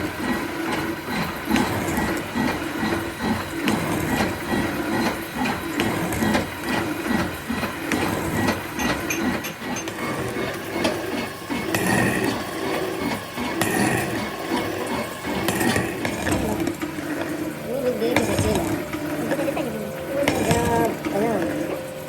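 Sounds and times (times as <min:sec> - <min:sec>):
workshop machine running rhythmically: 0:00.0 - 0:22.0.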